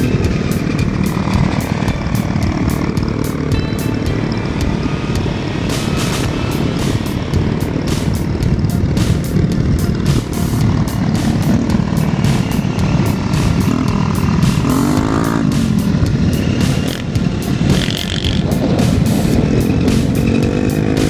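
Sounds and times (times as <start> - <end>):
scooter engine revving: 0.0 - 21.0
scooter engines running: 0.0 - 21.0
wind buffeting microphone: 0.0 - 21.0.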